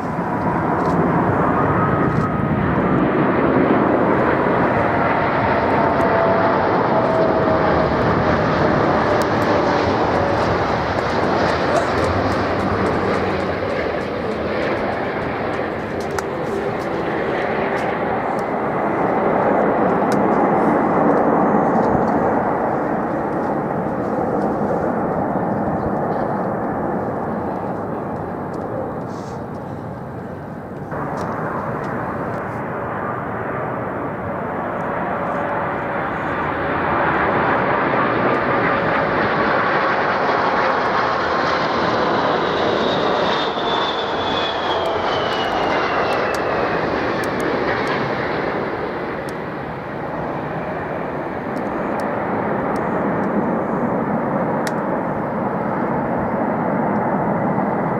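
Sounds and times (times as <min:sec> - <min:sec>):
high jet engine whine: 0:00.0 - 0:57.9
jet engine rumble: 0:00.0 - 0:57.9.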